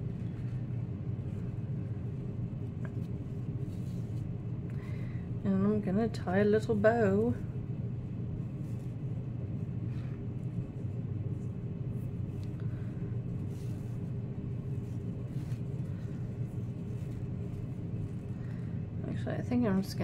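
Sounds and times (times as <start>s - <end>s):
heater humming: 0.0s - 20.0s.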